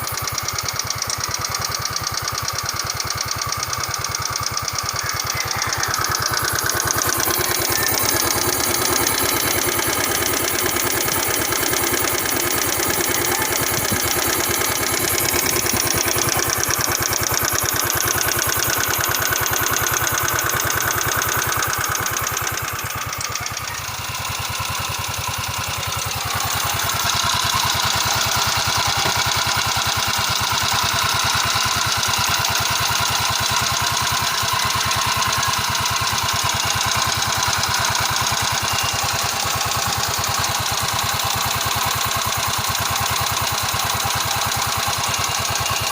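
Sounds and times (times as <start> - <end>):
scooter engine idling: 0.0 - 45.9.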